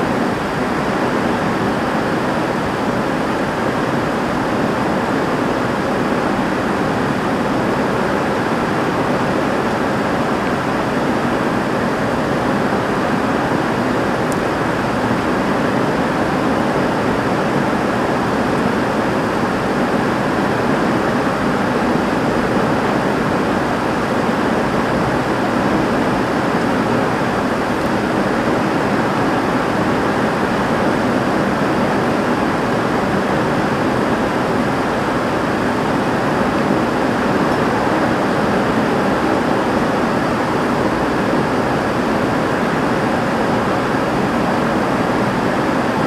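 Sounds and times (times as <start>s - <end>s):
heavy rain on a roof: 0.0s - 46.0s.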